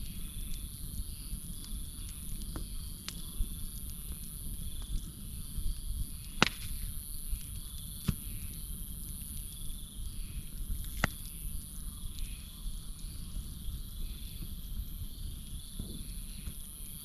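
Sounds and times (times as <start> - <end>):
campfire burning: 0.0 - 17.0
crickets chirping: 0.0 - 17.0
fire crackling pops: 0.0 - 17.0.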